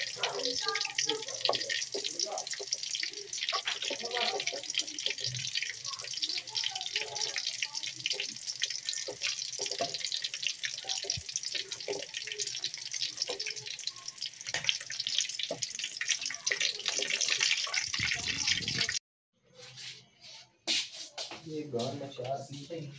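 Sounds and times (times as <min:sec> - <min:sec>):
chicken sizzling in hot oil: 0:00.0 - 0:19.0
oil popping and crackling: 0:00.0 - 0:19.0.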